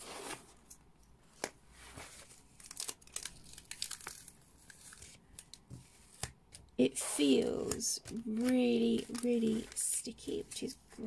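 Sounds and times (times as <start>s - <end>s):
plastic film rustling and crackling: 1.4s - 6.6s, 7.2s - 11.0s.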